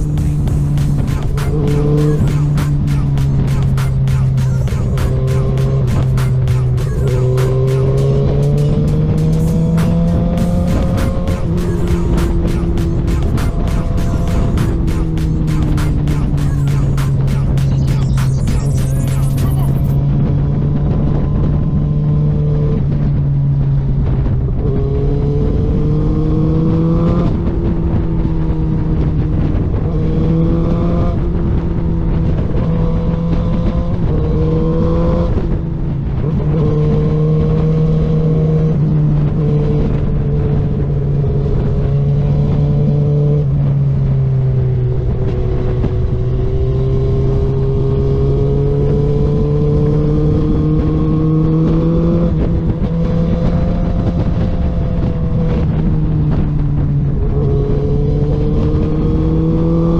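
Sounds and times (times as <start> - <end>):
motorcycle engine revving: 0.0 - 59.9
wind rush: 0.0 - 59.9.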